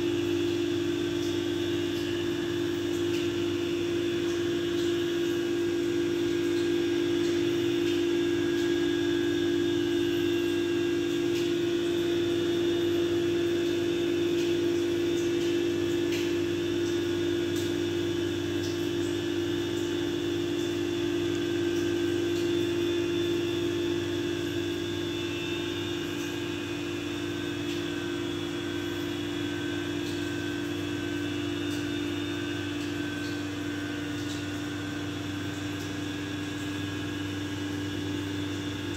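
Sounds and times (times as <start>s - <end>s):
mechanical hum: 0.0s - 38.9s.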